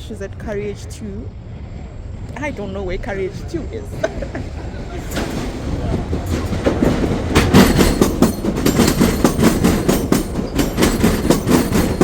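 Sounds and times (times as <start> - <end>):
train wheels clattering on track: 1.5 - 12.0.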